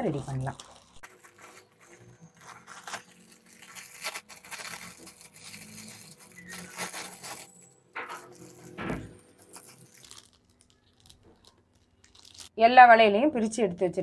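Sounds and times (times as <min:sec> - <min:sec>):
plastic wrapping crinkling and tearing: 0:00.0 - 0:12.6.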